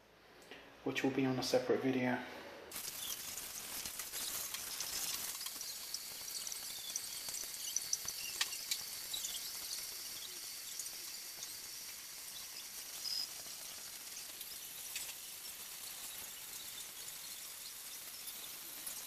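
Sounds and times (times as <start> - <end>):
hose water running into aquarium: 2.7 - 19.0.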